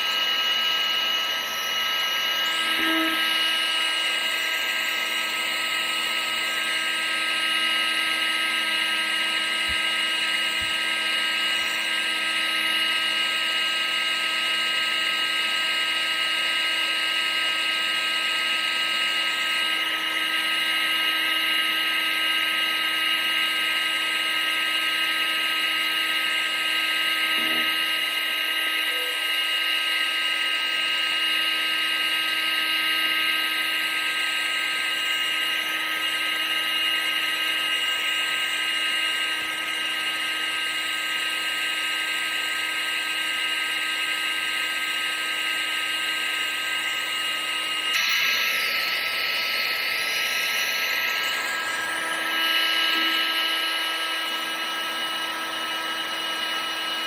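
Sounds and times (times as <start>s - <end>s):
vacuum cleaner motor running: 0.0s - 57.0s.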